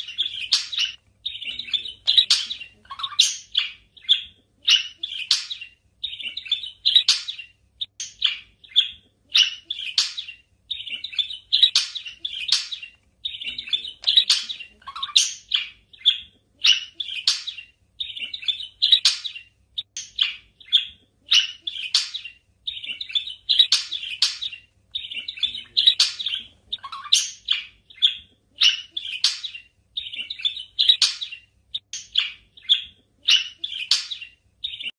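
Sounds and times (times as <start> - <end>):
budgerigars chirping: 0.0 - 34.9.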